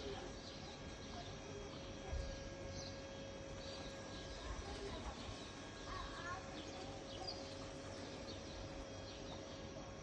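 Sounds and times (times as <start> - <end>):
faint birds chirping: 0.0 - 10.0
steady low hum: 0.0 - 10.0.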